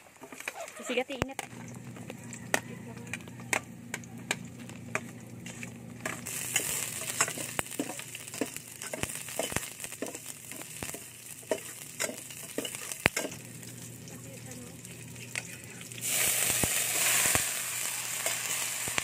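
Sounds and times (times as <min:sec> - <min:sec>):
onion sizzling in oil: 0:00.1 - 0:19.0.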